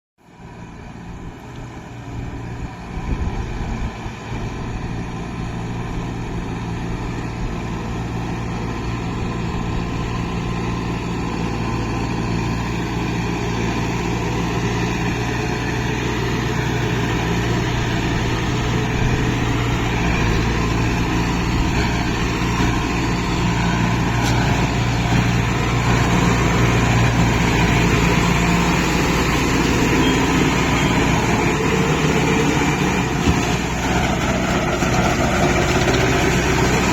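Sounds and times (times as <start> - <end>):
tractor diesel engine running: 0.2 - 36.9.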